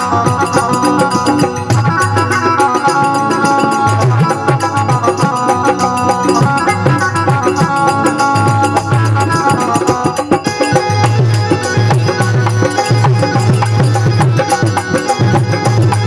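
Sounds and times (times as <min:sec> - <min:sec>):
driving drum beat: 0:00.0 - 0:16.0
instrumental melody line: 0:00.0 - 0:16.0.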